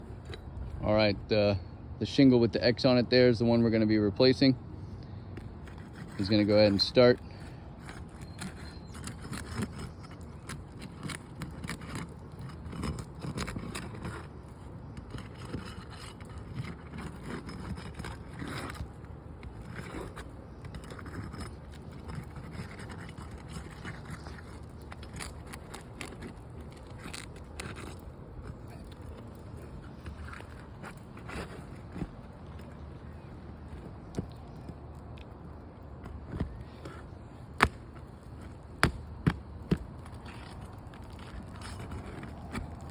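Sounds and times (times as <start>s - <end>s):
tool scraping roof shingles: 5.3s - 42.9s.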